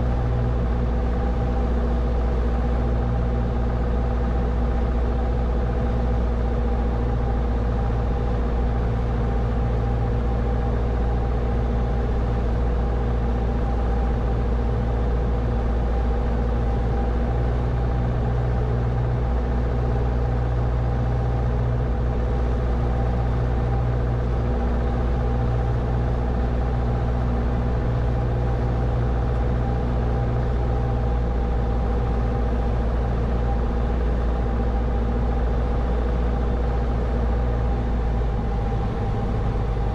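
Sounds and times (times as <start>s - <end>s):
aircraft engine and propeller droning: 0.0s - 39.9s.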